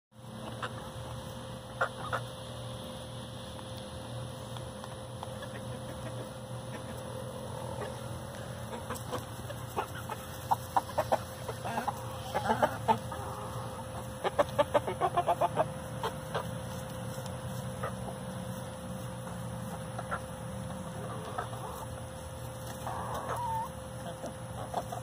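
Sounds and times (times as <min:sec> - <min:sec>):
hens clucking: 0:00.2 - 0:25.0.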